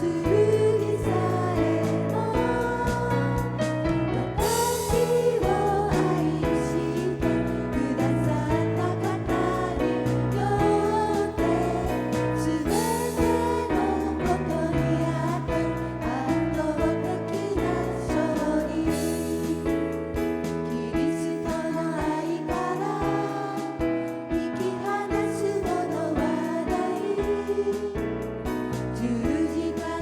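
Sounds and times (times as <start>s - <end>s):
instrumental accompaniment: 0.0s - 30.0s
voices singing worship song: 0.0s - 30.0s.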